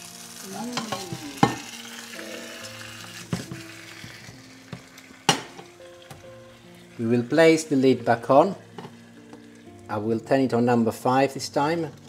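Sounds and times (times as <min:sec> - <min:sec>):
dough sizzling in a frying pan: 0:00.0 - 0:12.0
soft background music: 0:00.0 - 0:12.0.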